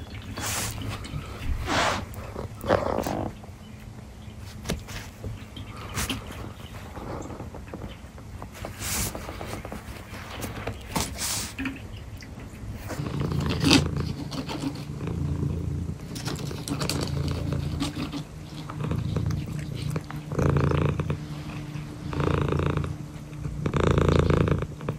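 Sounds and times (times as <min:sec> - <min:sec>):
cat purring: 0:00.0 - 0:03.5, 0:05.7 - 0:11.6, 0:12.7 - 0:24.9.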